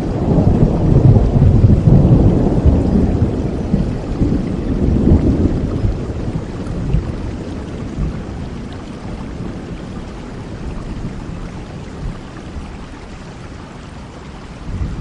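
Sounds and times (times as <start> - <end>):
rolling thunder: 0.0 - 13.5, 14.5 - 15.0
steady rain: 0.0 - 15.0.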